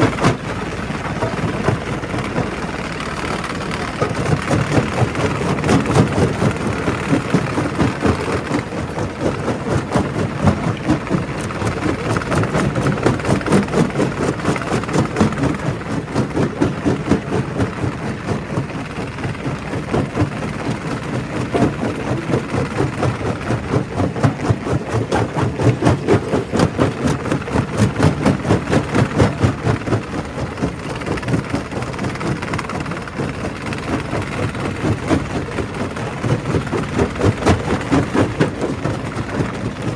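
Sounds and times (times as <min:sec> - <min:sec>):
rock crusher rumbling: 0:00.0 - 0:39.9.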